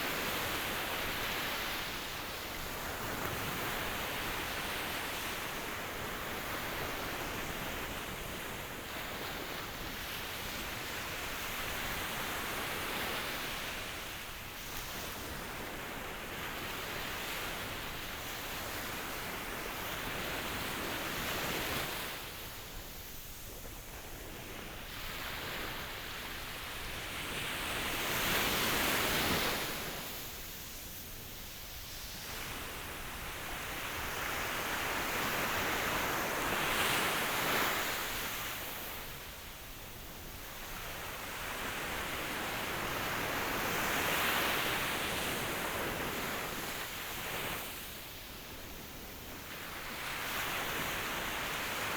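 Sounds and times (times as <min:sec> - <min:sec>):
ocean waves washing onto shore: 0:00.0 - 0:51.9.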